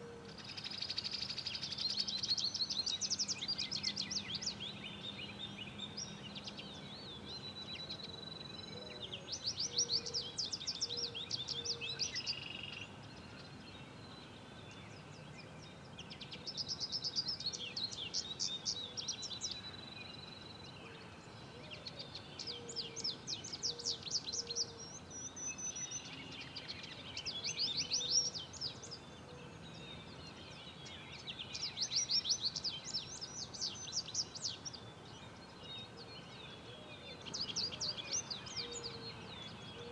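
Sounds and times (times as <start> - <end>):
songbirds trilling: 0.0 - 39.9
steady background hiss: 0.0 - 39.9.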